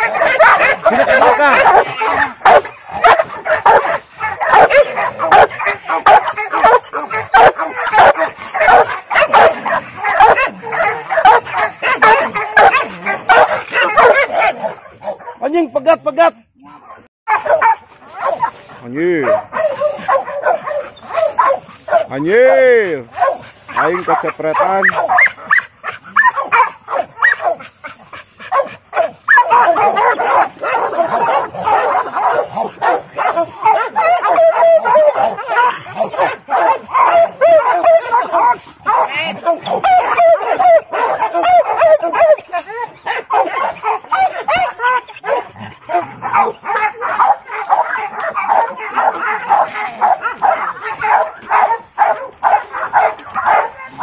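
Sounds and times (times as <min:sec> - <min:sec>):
dog barking aggressively: 0:00.0 - 0:15.9, 0:16.8 - 0:54.0.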